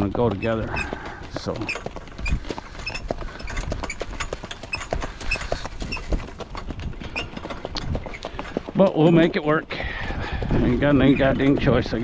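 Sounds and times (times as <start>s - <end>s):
horse hoofbeats: 0.0s - 12.0s.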